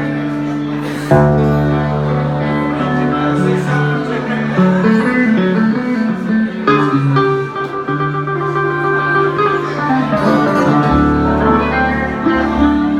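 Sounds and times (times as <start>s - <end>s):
band playing guitar-led instrumental: 0.0s - 12.9s.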